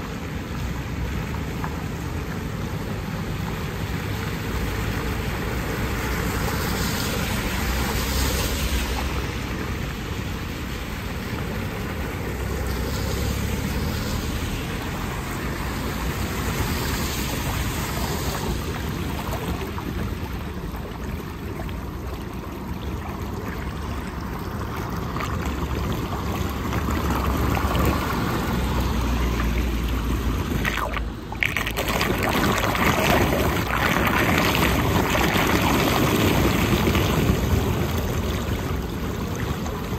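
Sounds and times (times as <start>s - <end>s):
van splashing through water: 0.0s - 39.9s
water gurgling down a drain: 0.0s - 39.9s.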